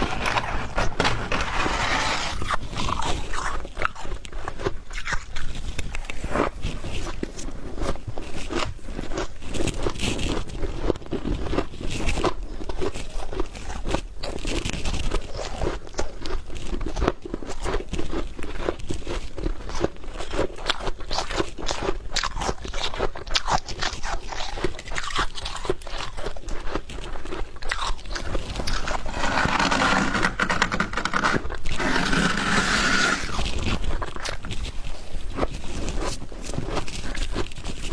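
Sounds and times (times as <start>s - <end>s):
frost being chewed crunching: 0.0s - 37.9s.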